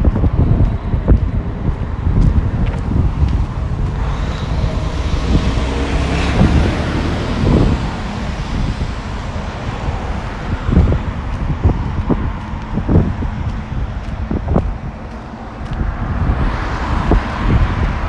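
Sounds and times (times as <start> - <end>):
road traffic: 0.0 - 18.0
wind buffeting microphone: 0.0 - 18.0
vehicle passing: 0.2 - 18.0.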